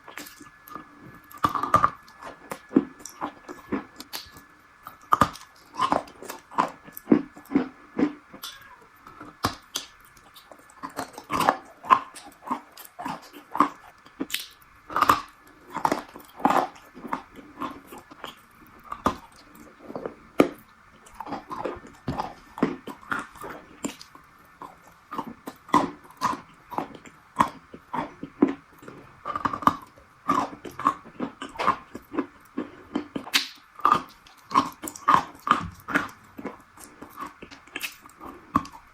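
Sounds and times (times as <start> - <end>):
crunchy food chewing: 0.0 - 38.9
faint steady hum: 0.0 - 38.9.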